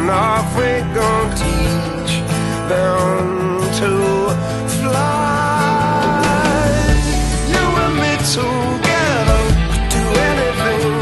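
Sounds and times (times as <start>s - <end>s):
instrumental backing music: 0.0s - 11.0s
person singing: 0.0s - 11.0s.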